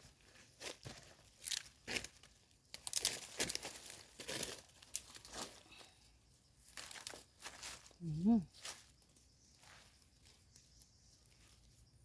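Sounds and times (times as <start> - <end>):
mushrooms being picked by hand: 0.4 - 11.8.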